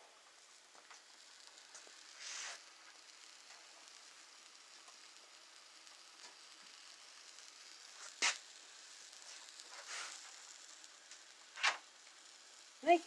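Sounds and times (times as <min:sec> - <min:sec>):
pancakes sizzling in a pan: 0:00.0 - 0:13.0.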